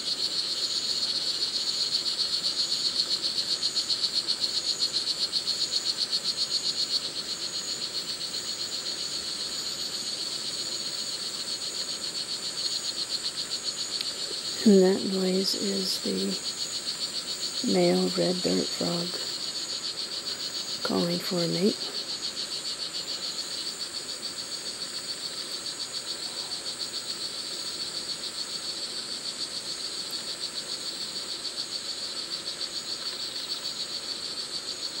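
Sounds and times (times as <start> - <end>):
high insect whine: 0.0 - 35.0.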